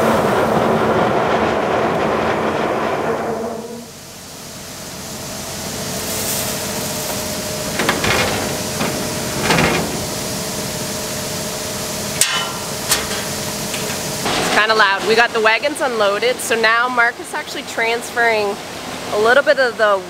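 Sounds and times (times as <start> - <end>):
grain-handling equipment running: 0.0 - 16.9.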